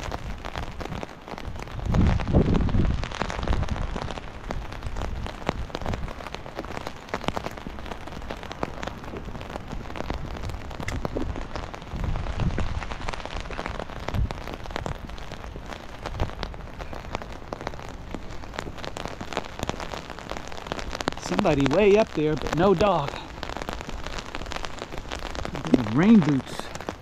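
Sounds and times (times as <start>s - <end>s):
rain pattering on umbrella: 0.0s - 27.0s.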